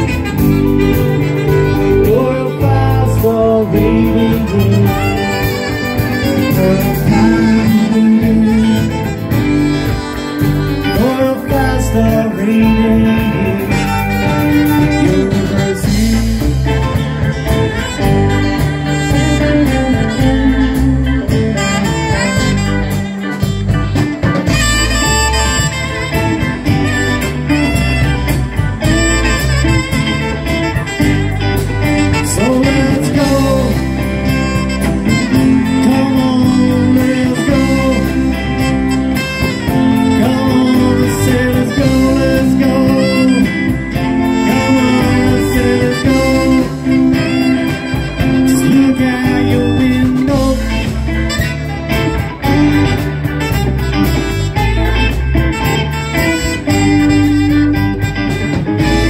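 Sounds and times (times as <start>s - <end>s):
live blues band playing: 0.0s - 59.0s
melodic lead line: 0.0s - 59.0s.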